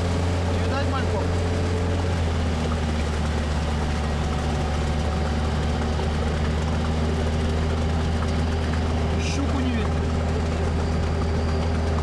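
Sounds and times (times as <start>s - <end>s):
vehicle engine low drone: 0.0s - 12.0s.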